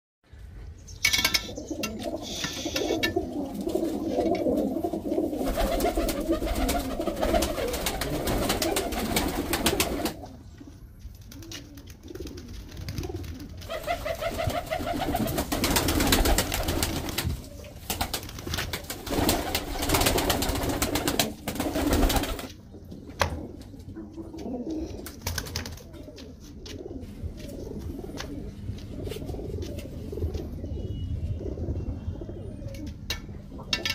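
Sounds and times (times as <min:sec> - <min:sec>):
pigeons cooing: 0:01.0 - 0:33.9.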